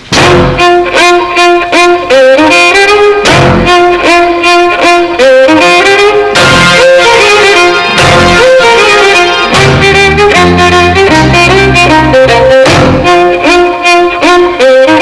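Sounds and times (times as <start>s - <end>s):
violin melody over steady beat: 0.0s - 15.0s.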